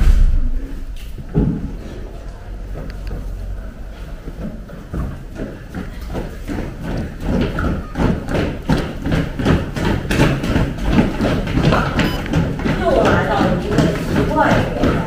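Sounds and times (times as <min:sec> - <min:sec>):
children running on tiled floor: 0:01.2 - 0:15.0.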